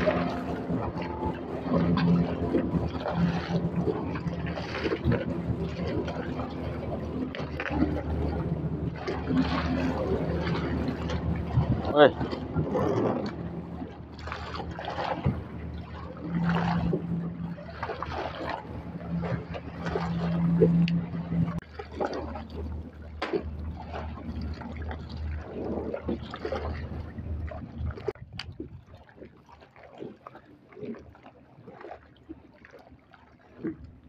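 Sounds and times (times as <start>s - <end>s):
boat engine idling: 0.0s - 34.0s
water slapping against hull: 0.0s - 34.0s.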